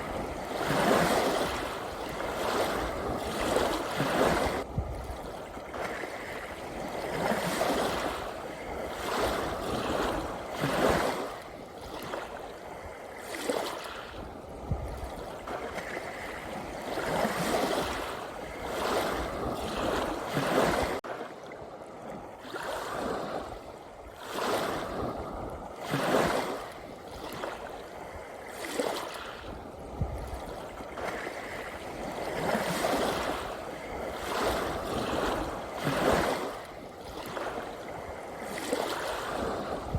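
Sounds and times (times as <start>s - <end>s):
sea waves washing and lapping: 0.0s - 39.9s.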